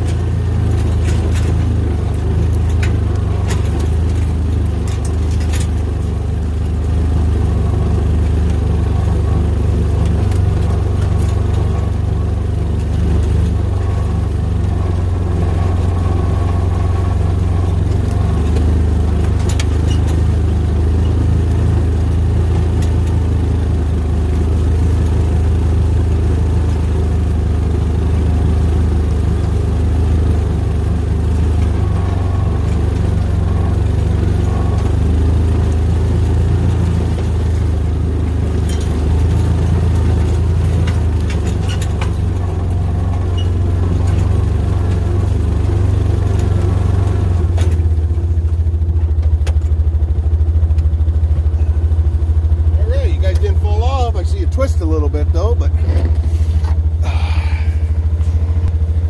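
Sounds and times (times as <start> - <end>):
light rattles: 0.0 - 59.0
utility vehicle engine running: 0.0 - 59.0.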